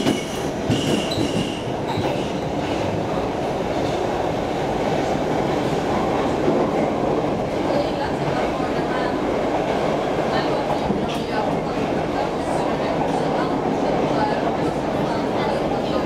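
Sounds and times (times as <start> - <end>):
subway wheels rumbling on rails: 0.0 - 16.0.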